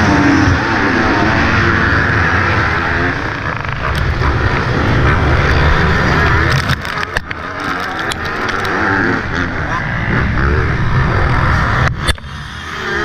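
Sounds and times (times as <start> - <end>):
motocross bike engine revving: 0.0 - 13.0
other motorbikes: 0.0 - 13.0.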